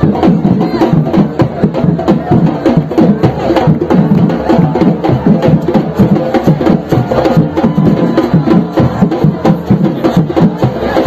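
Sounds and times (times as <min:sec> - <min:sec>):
drum ensemble playing: 0:00.0 - 0:11.0.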